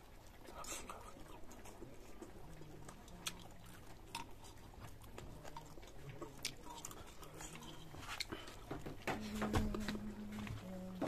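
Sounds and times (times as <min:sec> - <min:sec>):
man chewing: 0:00.0 - 0:11.0.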